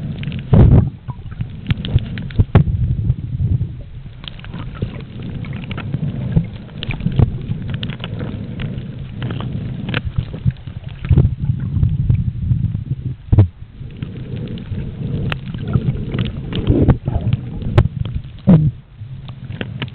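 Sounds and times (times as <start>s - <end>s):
underwater churning rumble: 0.0s - 19.9s.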